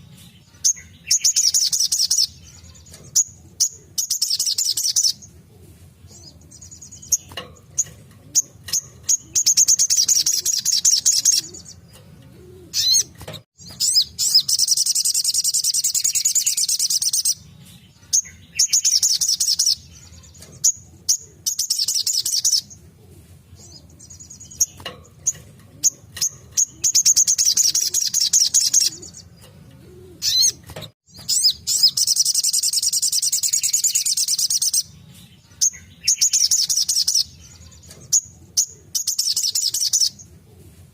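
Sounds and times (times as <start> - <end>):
bird high-pitched trilling: 0.0 - 5.3, 6.1 - 11.9, 12.6 - 22.8, 23.6 - 29.5, 30.1 - 40.2.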